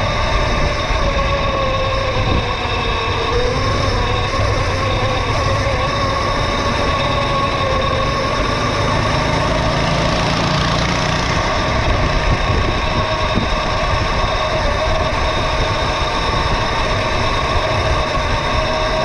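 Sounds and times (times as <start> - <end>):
mini bike motor running: 0.0 - 19.0.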